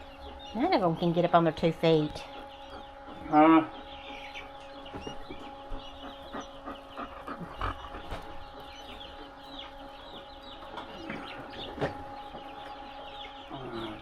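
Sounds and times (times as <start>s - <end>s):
quail chicks peeping: 0.0s - 14.0s
steady hum: 0.0s - 14.0s.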